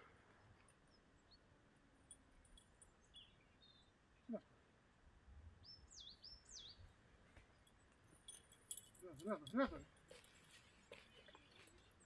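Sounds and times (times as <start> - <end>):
songbird chirps: 0.0 - 12.0.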